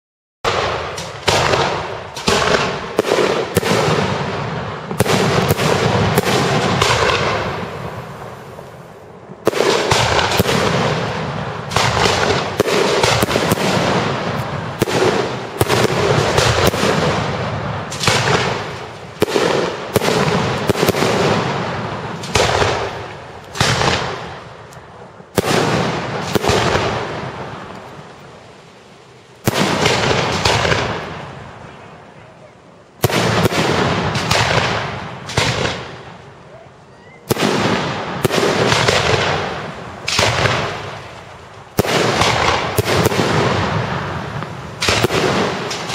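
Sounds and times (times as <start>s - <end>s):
fireworks shells bursting: 0.5s - 31.5s, 37.3s - 45.9s.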